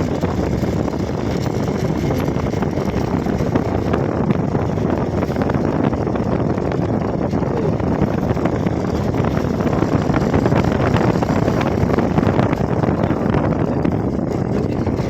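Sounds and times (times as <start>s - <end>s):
motorcycle engine and road noise: 0.0s - 15.0s
wind buffeting microphone: 0.0s - 15.0s.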